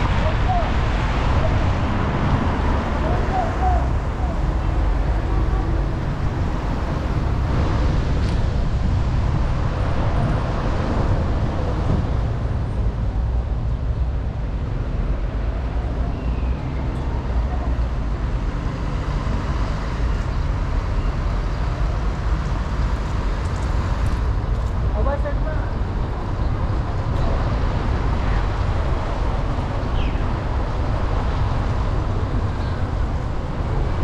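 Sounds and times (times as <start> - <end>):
car engine and road rumble: 0.0 - 34.0
tyres on wet asphalt: 0.0 - 34.0.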